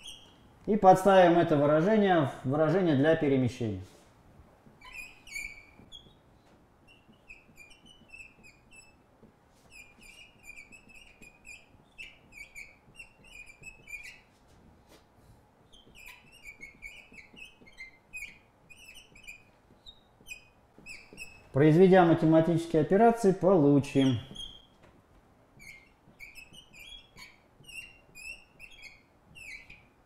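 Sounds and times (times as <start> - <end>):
marker squeaking on glass: 0.0 - 2.0, 4.6 - 14.6, 15.6 - 30.0.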